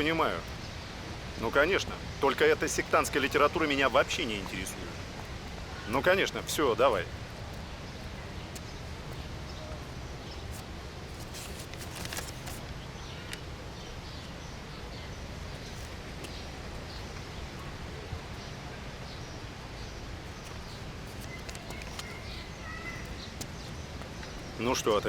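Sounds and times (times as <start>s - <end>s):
background ambience noise: 0.0s - 25.0s.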